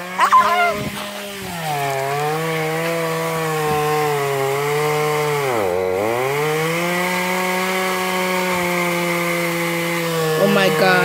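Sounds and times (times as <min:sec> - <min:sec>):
chainsaw cutting into tree trunk: 0:00.8 - 0:11.0.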